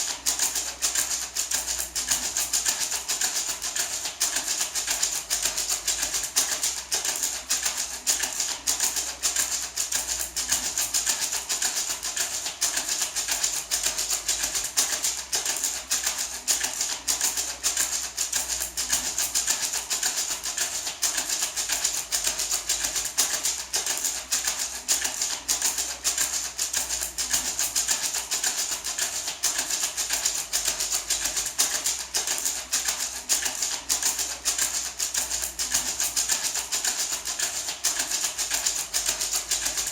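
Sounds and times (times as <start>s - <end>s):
gourd maraca rattling: 0.0s - 39.9s.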